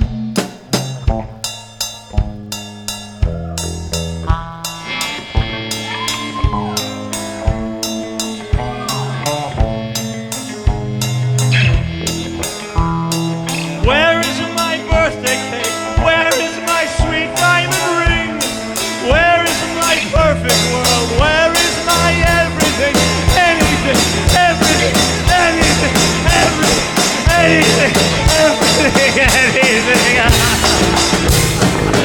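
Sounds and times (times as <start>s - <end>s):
bass guitar: 0.0s - 32.0s
drums steady beat: 0.0s - 32.0s
lead guitar bending notes: 0.0s - 32.0s.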